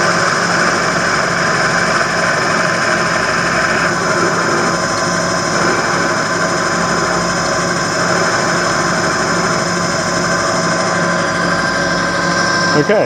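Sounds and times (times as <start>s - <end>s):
bench lathe motor whine: 0.0s - 13.0s.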